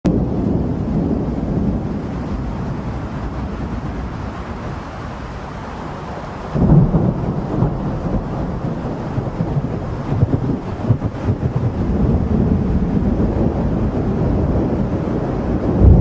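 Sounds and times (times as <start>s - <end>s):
thunder rumbling: 0.1s - 16.0s.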